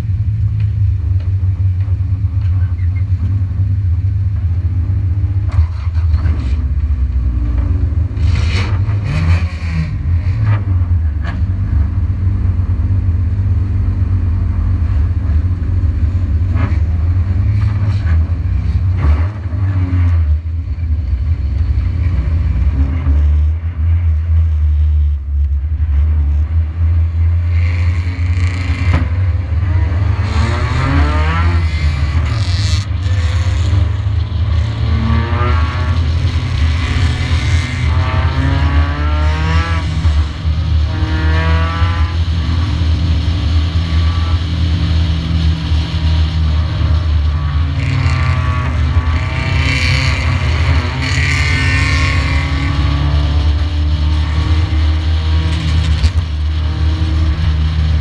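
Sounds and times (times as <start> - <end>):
car accelerating: 4.0 - 58.0.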